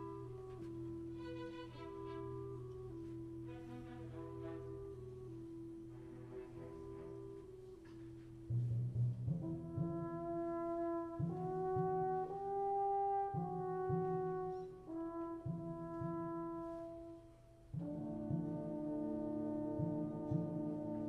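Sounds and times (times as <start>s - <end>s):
orchestra playing slow chords: 0.0s - 17.0s, 17.7s - 21.0s.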